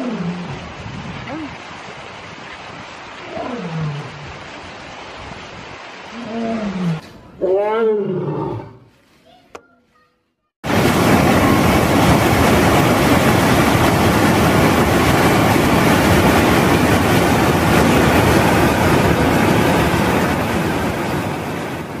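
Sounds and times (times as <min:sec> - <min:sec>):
stream rushing over rocks: 0:00.0 - 0:06.6, 0:10.6 - 0:22.0.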